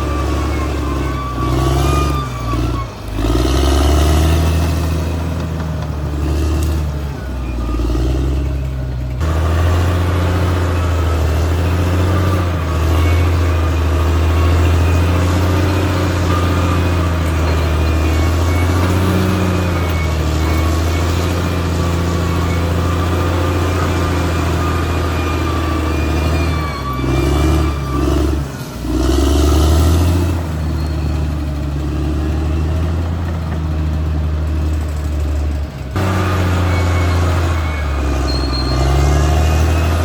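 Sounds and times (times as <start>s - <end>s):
bulldozer diesel engine drone: 0.0s - 40.0s.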